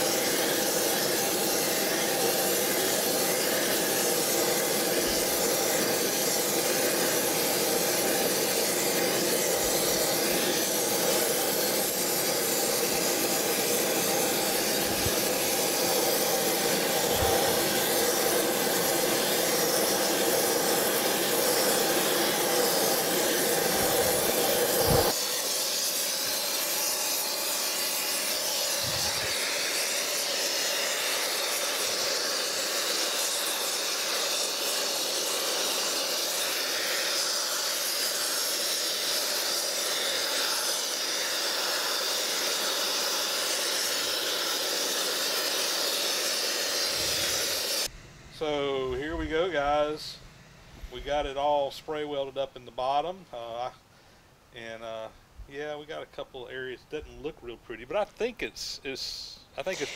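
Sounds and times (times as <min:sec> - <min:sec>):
spray-weld torch hissing: 0:00.0 - 0:48.7, 0:58.8 - 0:59.9
gas torch hissing: 0:00.0 - 0:53.7, 0:57.9 - 0:59.9.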